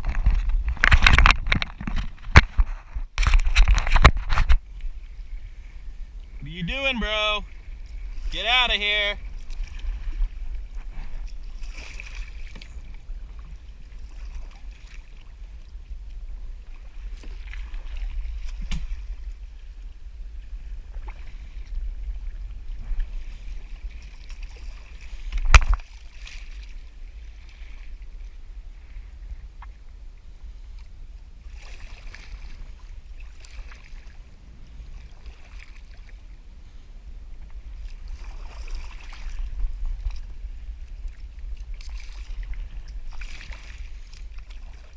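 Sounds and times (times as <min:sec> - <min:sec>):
water lapping around a kayak: 0:00.0 - 0:44.9
wind rumble on microphone: 0:00.0 - 0:44.9.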